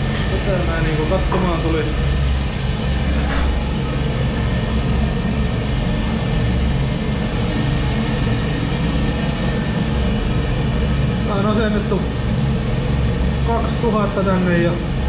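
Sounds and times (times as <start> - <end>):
faint high whine: 0.0 - 15.0
oil burner rumbling: 0.0 - 15.0.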